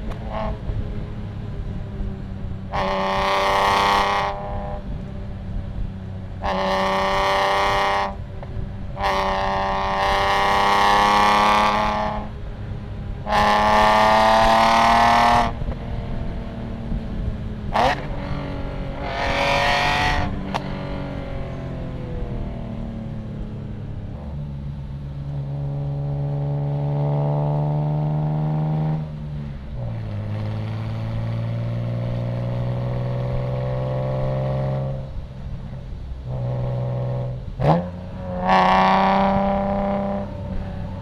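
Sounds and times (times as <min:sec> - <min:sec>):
loud car exhaust accelerating: 0:00.0 - 0:41.0.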